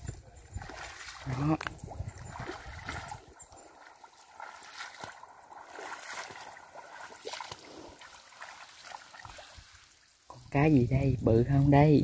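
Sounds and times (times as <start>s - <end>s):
water trickling and lapping: 0.0s - 11.9s
small splashes: 0.6s - 10.2s.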